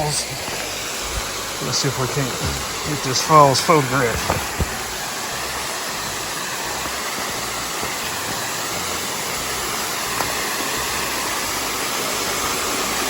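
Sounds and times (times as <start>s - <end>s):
waterfall splashing: 0.0s - 13.0s.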